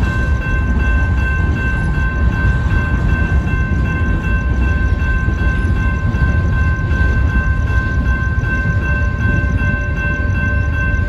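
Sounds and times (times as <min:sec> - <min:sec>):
high ringing tones: 0:00.0 - 0:11.0
train wheels rumbling on rails: 0:00.0 - 0:11.0.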